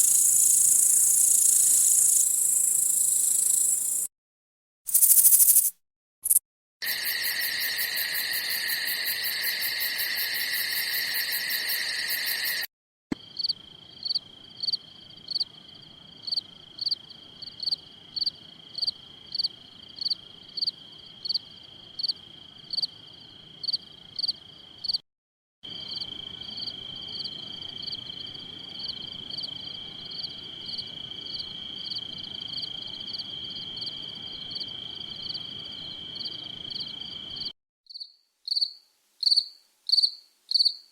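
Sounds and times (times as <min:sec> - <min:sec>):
crickets chirping: 0:00.0 - 0:04.1, 0:04.9 - 0:25.0, 0:25.6 - 0:40.9.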